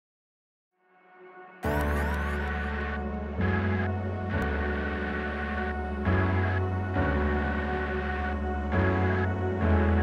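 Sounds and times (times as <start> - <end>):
sustained chords: 1.6 - 10.0.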